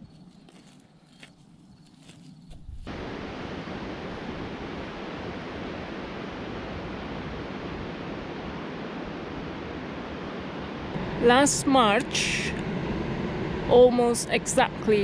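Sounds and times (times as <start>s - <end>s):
ocean surf breaking on beach: 2.9s - 15.0s.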